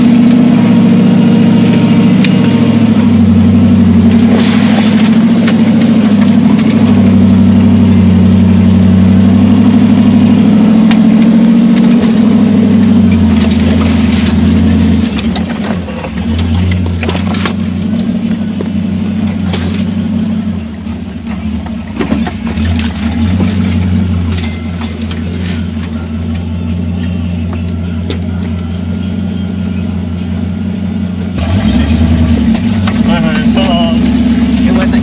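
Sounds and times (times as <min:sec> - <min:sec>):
knocks and rattles over bumps: 0:00.0 - 0:07.8, 0:09.2 - 0:28.9, 0:30.3 - 0:35.0
vehicle engine running: 0:00.0 - 0:35.0.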